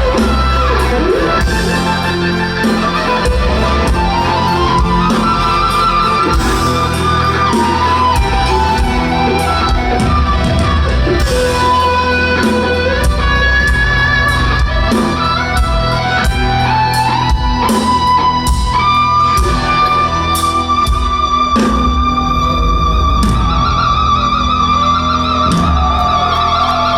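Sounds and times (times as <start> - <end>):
bass line: 0.0 - 26.9
lead melody with pitch slides: 0.0 - 26.9
live rock band playing: 0.0 - 26.9.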